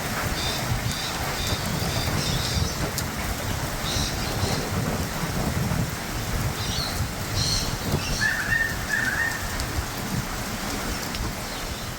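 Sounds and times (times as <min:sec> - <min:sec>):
steady rain falling: 0:00.0 - 0:11.9.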